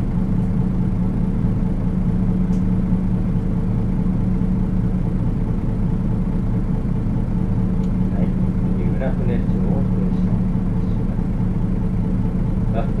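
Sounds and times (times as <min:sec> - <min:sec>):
bus engine humming: 0:00.0 - 0:13.0.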